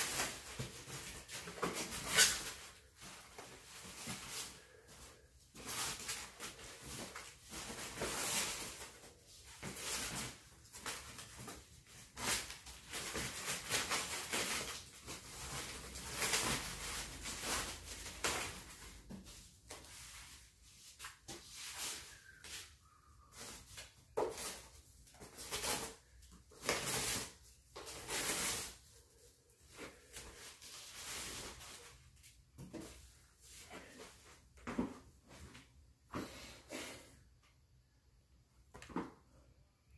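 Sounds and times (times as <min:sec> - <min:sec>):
foam and plastic wrap rustling: 0:00.0 - 0:34.6.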